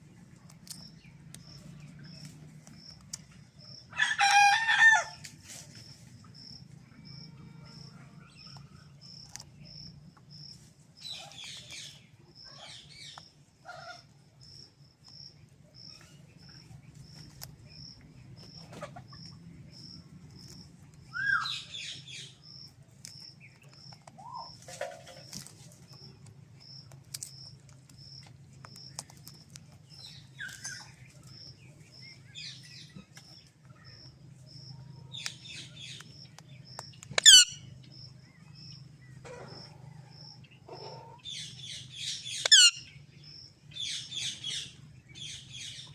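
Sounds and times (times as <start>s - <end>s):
birds chirping: 0.0s - 5.1s, 5.8s - 45.9s.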